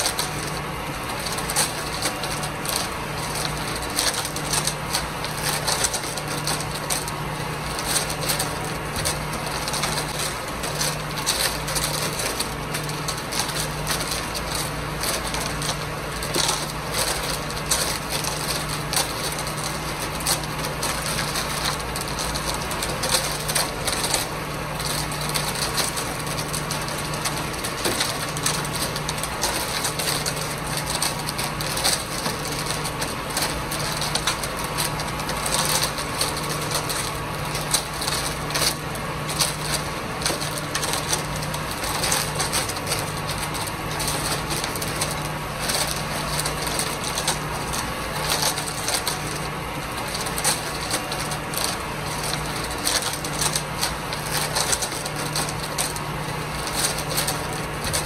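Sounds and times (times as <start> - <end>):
concrete churning in mixer drum: 0.0 - 58.0
low hum of drum drive: 0.0 - 58.0.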